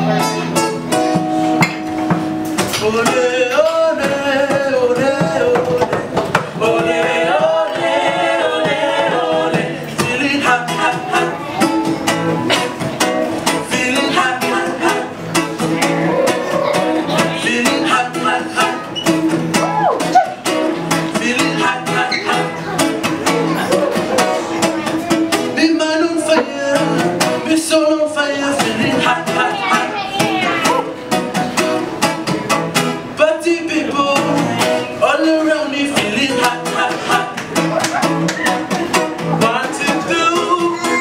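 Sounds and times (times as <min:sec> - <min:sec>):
acoustic guitar strumming: 0:00.0 - 0:41.0
voices singing: 0:02.7 - 0:31.1, 0:33.0 - 0:41.0.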